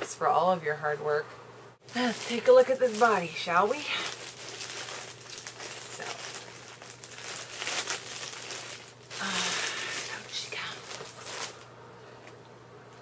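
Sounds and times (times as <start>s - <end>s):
packaging crinkling and rustling: 1.9s - 12.4s.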